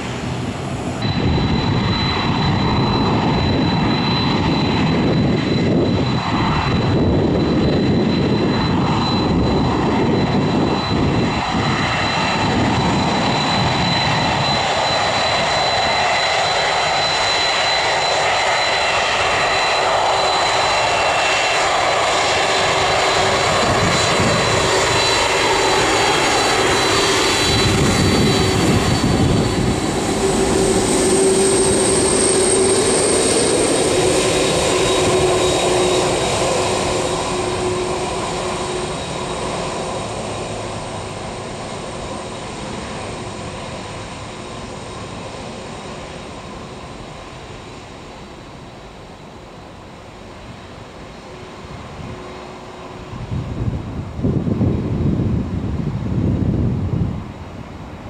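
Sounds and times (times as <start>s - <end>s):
high engine whine: 0.0s - 58.0s
jet engines rushing: 0.0s - 58.0s.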